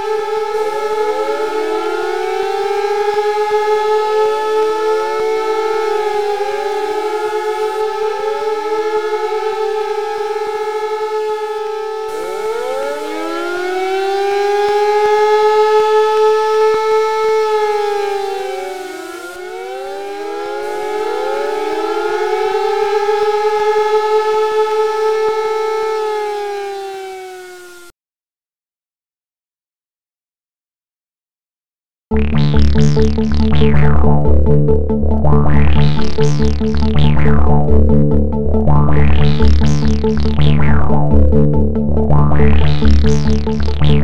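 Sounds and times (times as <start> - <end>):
alarm siren wailing: 0.0 - 27.9, 32.1 - 44.0.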